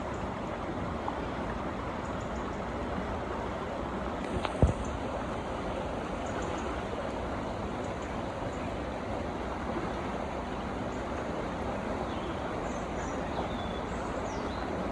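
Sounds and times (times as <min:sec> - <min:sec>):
water rushing down channel: 0:00.0 - 0:14.9.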